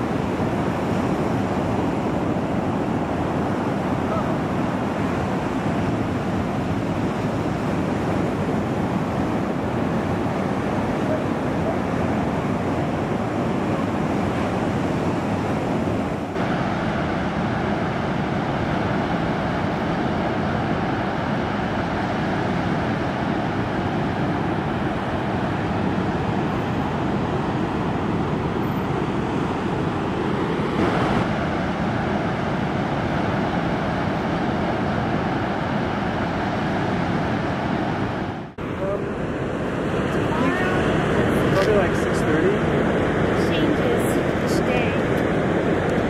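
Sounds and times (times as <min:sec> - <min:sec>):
ocean surf washing on beach: 0:00.0 - 0:46.0
wind noise on microphone: 0:00.0 - 0:46.0.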